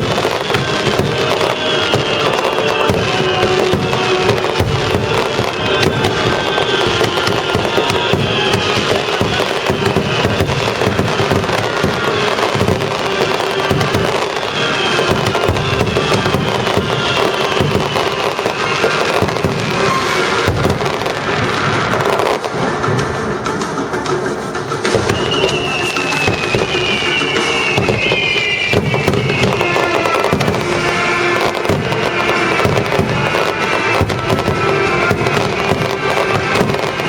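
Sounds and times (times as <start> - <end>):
fireworks bursting and crackling: 0.0 - 37.0
orchestral music over loudspeakers: 0.0 - 37.0.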